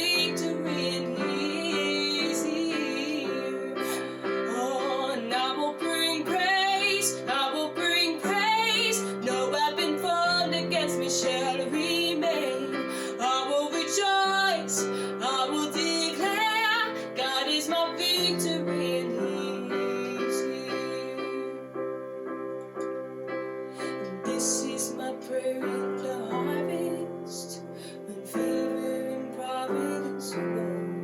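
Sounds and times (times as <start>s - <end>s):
woman singing wordless lines: 0.0s - 21.8s, 23.8s - 31.0s.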